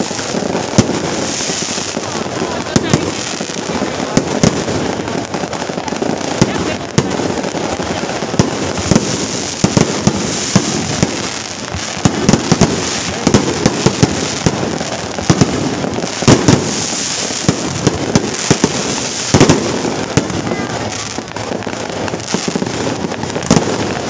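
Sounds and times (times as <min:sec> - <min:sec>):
firecrackers crackling: 0:00.0 - 0:24.0
loud firecracker bangs: 0:00.0 - 0:24.0.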